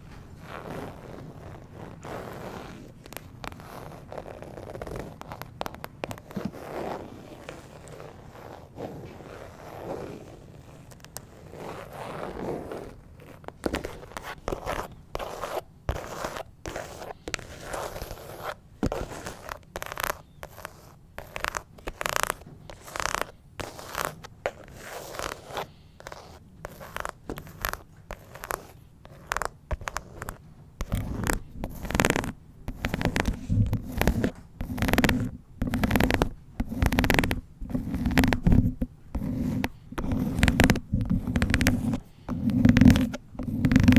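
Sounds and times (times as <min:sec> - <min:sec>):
fingernails scratching phone case: 0:00.4 - 0:43.9.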